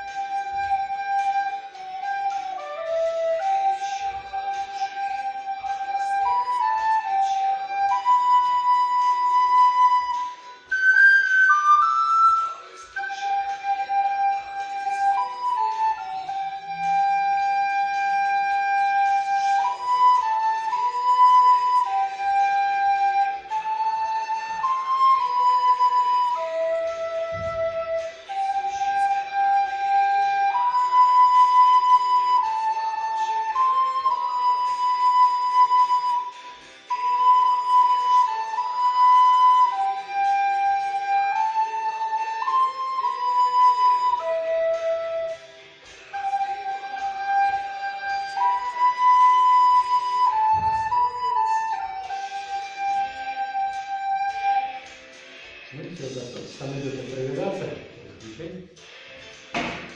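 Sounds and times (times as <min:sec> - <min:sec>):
backing track music: 0:00.0 - 0:59.9
recorder melody: 0:00.0 - 0:59.9.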